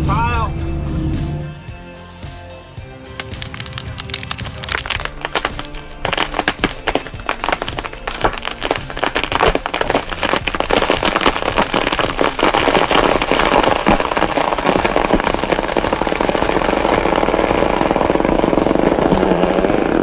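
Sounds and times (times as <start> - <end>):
wood and brush crackling: 3.1 - 20.0.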